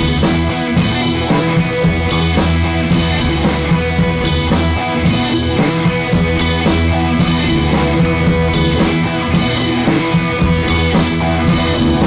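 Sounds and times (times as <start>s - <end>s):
drum kit beat: 0.0s - 12.0s
electric guitar: 0.0s - 12.0s.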